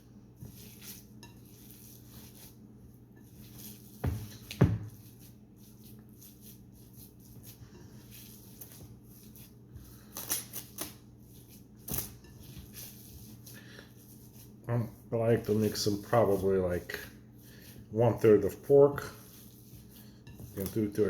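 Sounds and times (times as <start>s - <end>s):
soft squishing of meat by hand: 0.0s - 21.0s.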